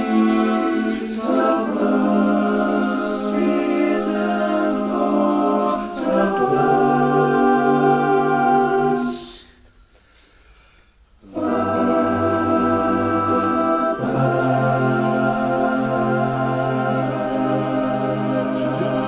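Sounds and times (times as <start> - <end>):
male chorus singing a cappella: 0.0 - 9.6, 11.2 - 19.0.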